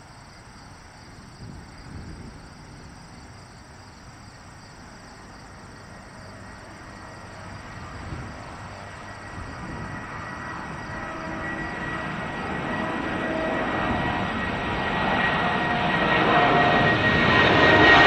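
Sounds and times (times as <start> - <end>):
distant jet engine roar: 0.0 - 18.0.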